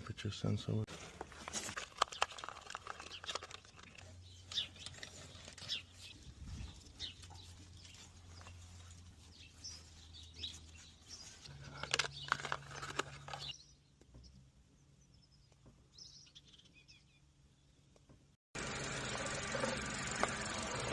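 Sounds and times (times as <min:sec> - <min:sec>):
birds chirping: 0:00.0 - 0:18.1.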